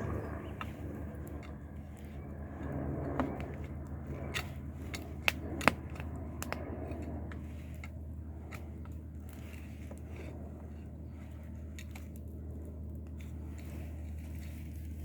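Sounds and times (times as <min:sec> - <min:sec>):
steady low hum: 0:00.0 - 0:15.0
wood fire crackling and popping: 0:00.0 - 0:15.0.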